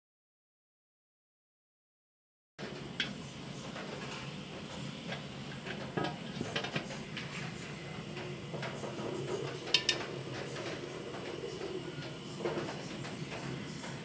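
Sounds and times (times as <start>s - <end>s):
steam hissing from pot: 2.6s - 14.0s.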